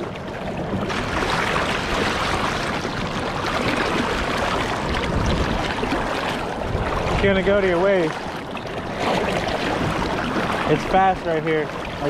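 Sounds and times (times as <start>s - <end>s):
river current rushing: 0.8s - 12.0s.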